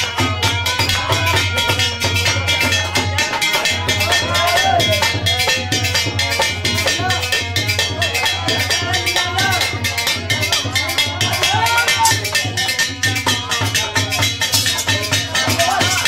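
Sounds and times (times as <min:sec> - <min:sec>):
drum and hand percussion beat: 0:00.0 - 0:16.0.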